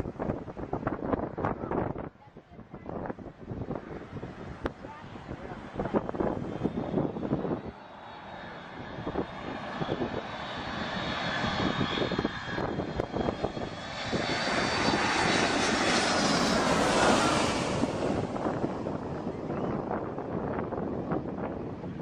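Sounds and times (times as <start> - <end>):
airplane engine whining: 0.0 - 22.0
wind buffeting microphone: 0.0 - 22.0.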